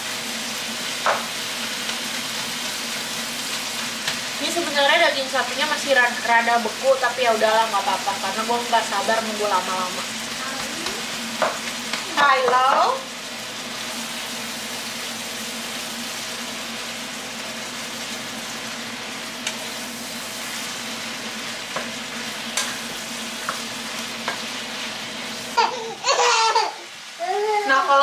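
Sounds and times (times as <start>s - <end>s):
beef and onions sizzling in a pan: 0.0s - 28.0s.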